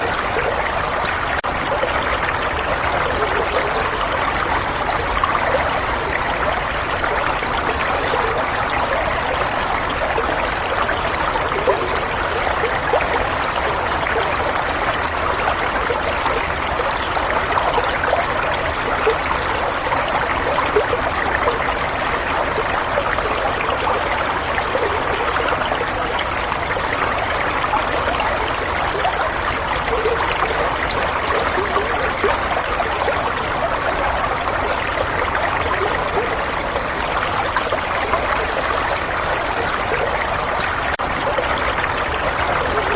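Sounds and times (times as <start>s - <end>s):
running water babbling: 0.0s - 42.9s.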